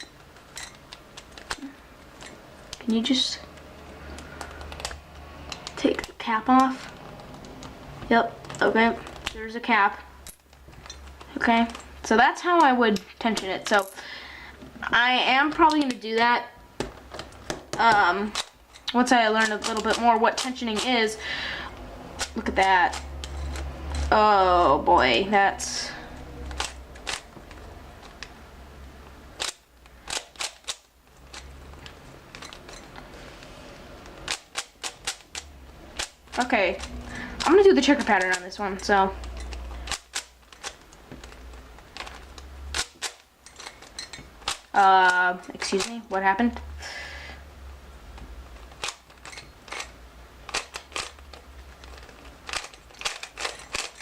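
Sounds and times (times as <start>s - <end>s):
puzzle cube clicking: 0.0s - 14.0s, 17.3s - 24.1s, 26.4s - 33.1s, 33.8s - 46.0s, 48.1s - 54.0s.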